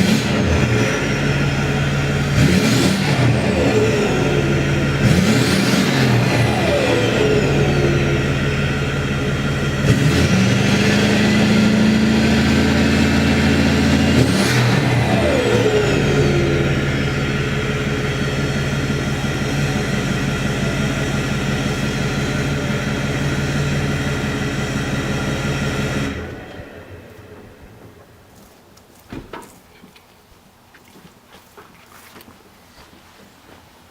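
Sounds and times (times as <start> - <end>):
diesel engine idling and revving: 0.0 - 28.5.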